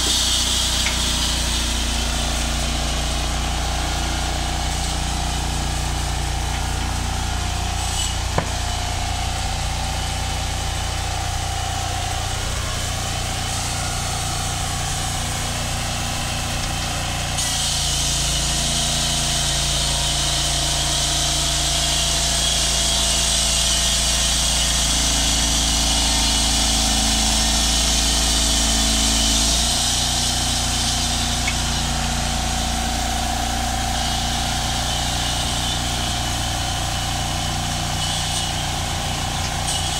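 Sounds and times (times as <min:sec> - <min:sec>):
band saw cutting timber: 0:00.0 - 0:39.9
sawmill engine running: 0:00.0 - 0:39.9.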